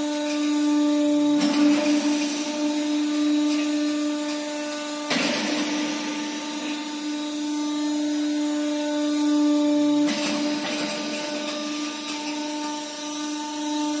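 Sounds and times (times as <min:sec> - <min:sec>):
electric motor hum: 0:00.0 - 0:14.0.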